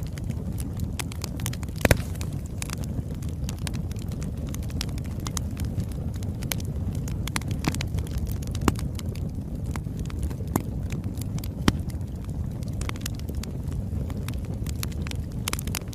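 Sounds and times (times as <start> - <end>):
fire crackling: 0.0 - 15.9
low rumble of flame: 0.0 - 15.9
sharp pops and snaps: 0.0 - 15.9.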